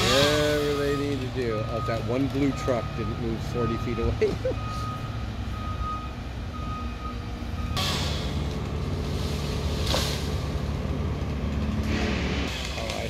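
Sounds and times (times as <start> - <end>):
truck reversing alarm beeping: 0.0 - 10.9
truck engine running: 0.0 - 13.0.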